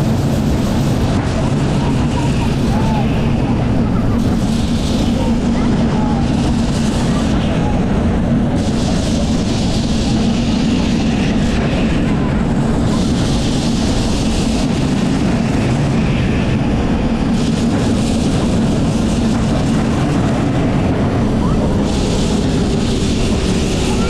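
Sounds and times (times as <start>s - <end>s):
electric tram rumbling and humming: 0.0s - 24.0s.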